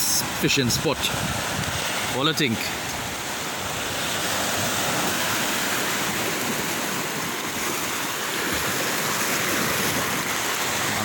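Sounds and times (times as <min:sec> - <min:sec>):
waves washing over rocks: 0:00.0 - 0:11.0.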